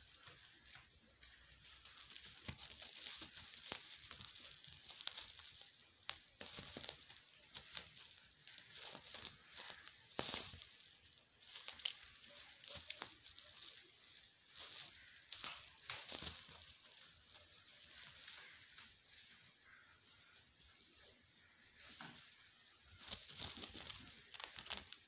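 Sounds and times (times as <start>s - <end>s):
plastic sacks crinkling and rustling: 0.0s - 18.6s, 22.9s - 25.0s.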